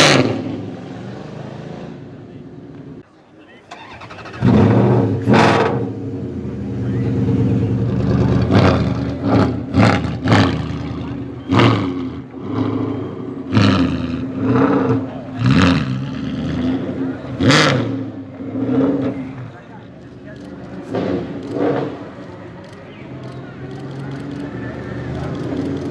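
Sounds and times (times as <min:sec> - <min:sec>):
car engine idling and revving: 0:00.0 - 0:03.0, 0:03.8 - 0:25.9.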